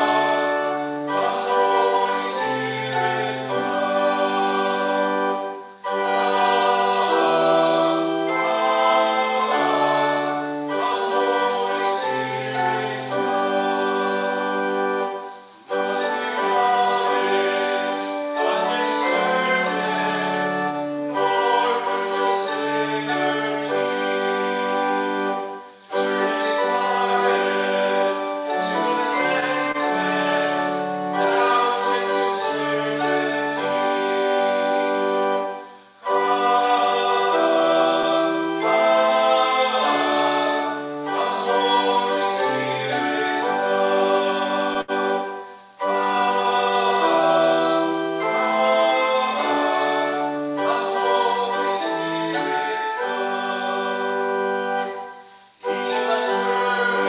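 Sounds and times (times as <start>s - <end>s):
organ accompaniment: 0.0s - 57.0s
voices singing a hymn: 0.0s - 57.0s.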